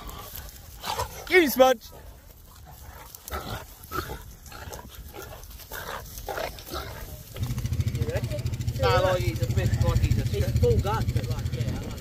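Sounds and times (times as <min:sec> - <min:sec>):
animals grunting and growling: 0:00.0 - 0:12.0.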